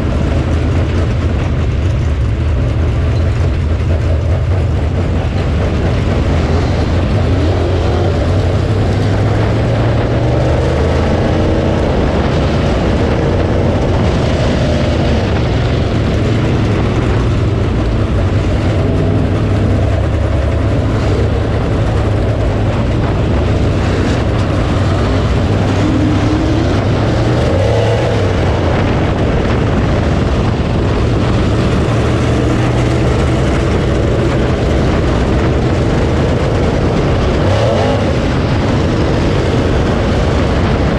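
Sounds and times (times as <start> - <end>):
race car engine rumbling: 0.0 - 40.9.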